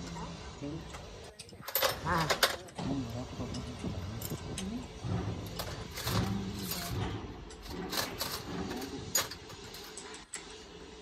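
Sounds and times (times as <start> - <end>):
low uneven background noise: 0.0 - 11.0.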